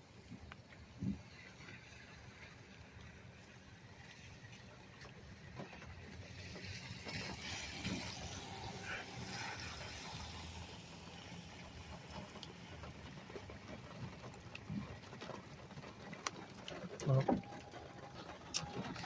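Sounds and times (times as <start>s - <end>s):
light taps of raindrops: 0.1s - 19.0s
rain falling: 0.1s - 19.0s.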